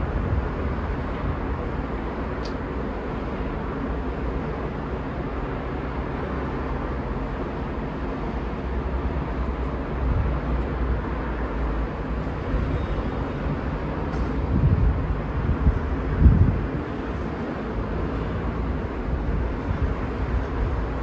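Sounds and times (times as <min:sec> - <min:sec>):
city road traffic: 0:00.0 - 0:21.0
wind: 0:00.0 - 0:21.0.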